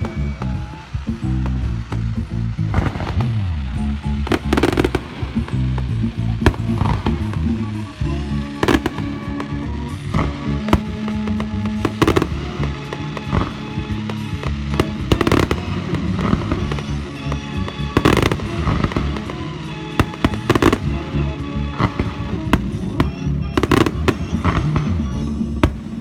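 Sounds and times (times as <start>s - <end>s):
fireworks bangs and crackles: 0.0s - 26.0s
music with low notes: 0.0s - 26.0s.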